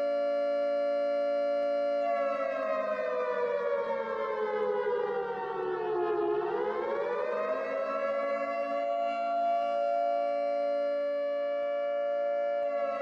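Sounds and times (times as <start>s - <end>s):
civil defence siren wailing: 0.0s - 13.0s.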